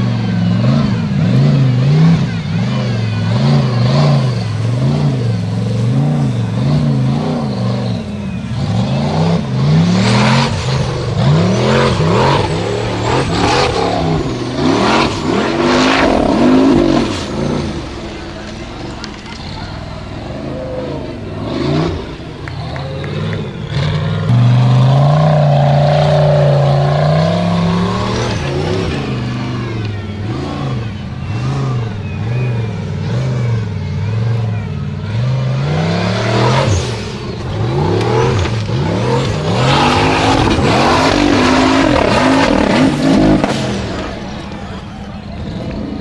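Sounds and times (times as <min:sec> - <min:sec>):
car engine revving hard: 0:00.0 - 0:46.0.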